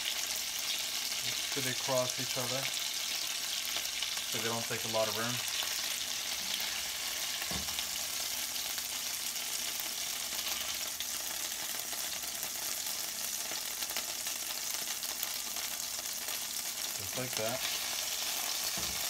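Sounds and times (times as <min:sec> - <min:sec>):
oil sizzling in a frying pan: 0:00.0 - 0:19.0.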